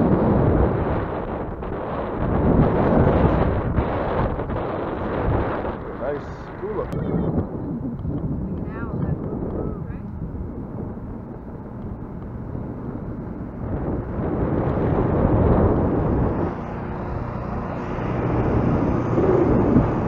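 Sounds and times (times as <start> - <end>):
bicycle road noise: 0.0 - 20.0
wind rushing over microphone: 0.0 - 20.0.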